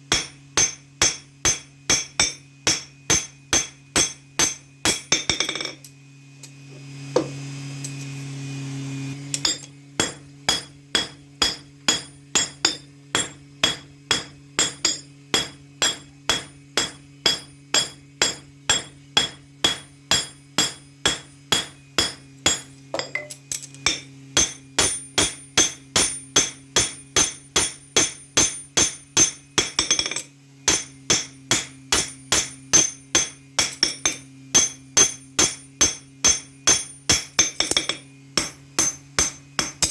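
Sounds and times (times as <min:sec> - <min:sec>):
steady low hum: 0:00.0 - 0:39.9
hammer ringing on anvil: 0:00.1 - 0:05.8, 0:09.4 - 0:39.9.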